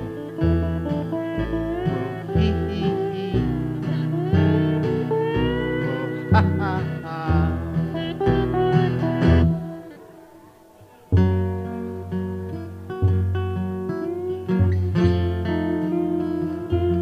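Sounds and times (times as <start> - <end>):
acoustic guitar strumming: 0.0 - 17.0
electric guitar: 0.0 - 17.0
strong low notes: 0.0 - 17.0.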